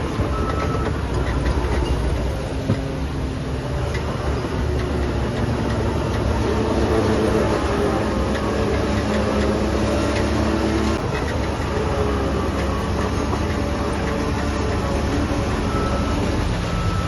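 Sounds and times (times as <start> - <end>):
diesel machinery engine hum: 0.0 - 17.0.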